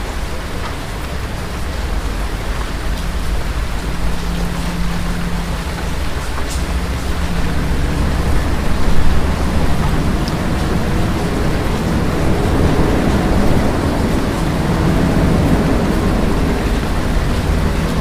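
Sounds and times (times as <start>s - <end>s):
low rolling thunder: 0.0s - 18.0s
steady rain: 0.0s - 18.0s.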